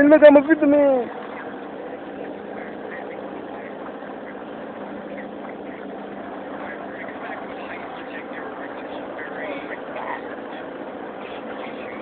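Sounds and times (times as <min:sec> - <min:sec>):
boat motor running: 0:00.0 - 0:12.0
faint steady hum: 0:00.0 - 0:12.0.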